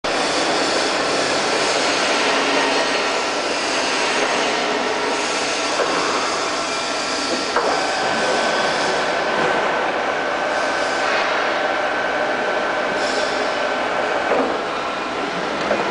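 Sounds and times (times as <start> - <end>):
lathe running with whine: 0.1 - 15.9.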